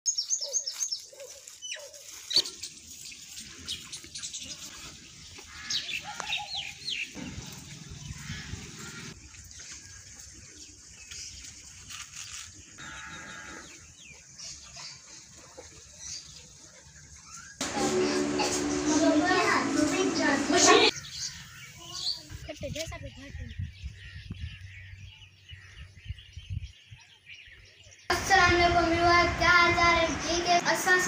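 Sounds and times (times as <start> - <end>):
small birds chirping: 0.1 - 17.6, 20.8 - 28.6
outdoor background noise: 0.1 - 31.0.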